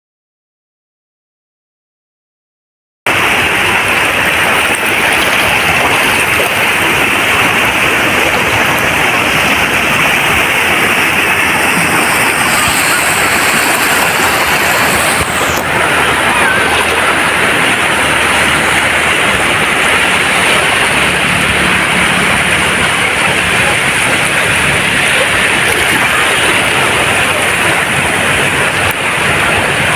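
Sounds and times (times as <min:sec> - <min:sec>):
breaking waves rushing: 0:03.1 - 0:29.9.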